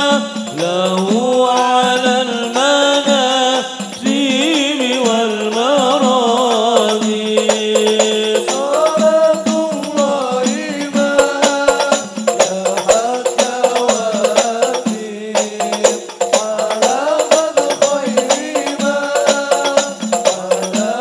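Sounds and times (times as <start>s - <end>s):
frame drums: 0.0s - 21.0s
men singing into microphones: 0.0s - 21.0s.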